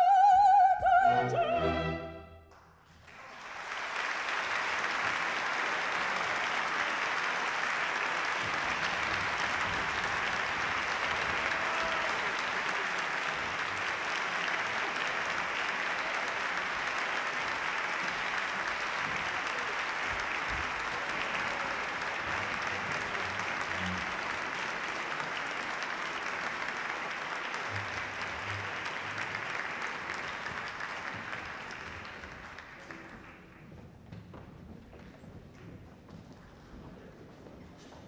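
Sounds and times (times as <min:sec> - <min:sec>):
audience applauding: 0:02.5 - 0:34.2.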